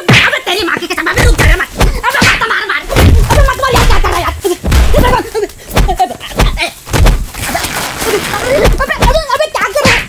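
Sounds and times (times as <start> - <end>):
punch and kick thuds: 0.0 - 0.4, 1.2 - 7.5, 8.4 - 10.0.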